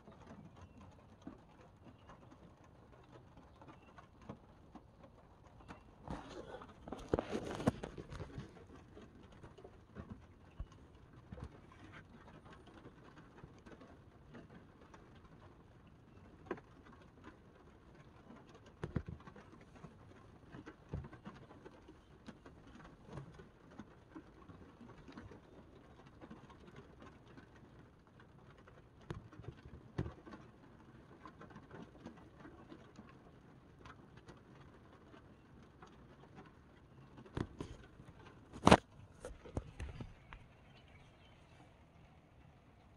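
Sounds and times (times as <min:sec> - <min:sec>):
rain on car window glass: 0:00.0 - 0:42.9.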